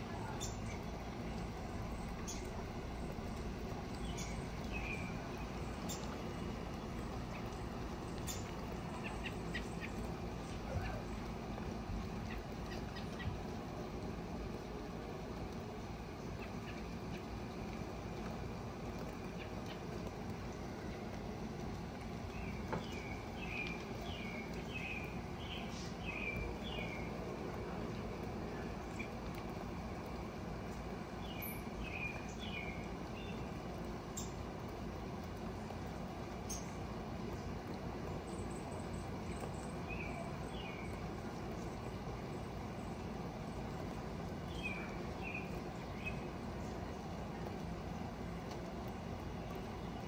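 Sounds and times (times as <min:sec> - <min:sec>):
outdoor background noise: 0:00.0 - 0:50.0.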